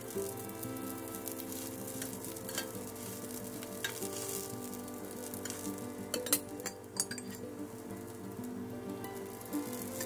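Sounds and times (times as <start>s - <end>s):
spatula in pan: 0.0s - 7.4s, 9.2s - 10.0s
food sizzling in oil: 0.0s - 10.0s
spattering crackles: 0.0s - 10.0s.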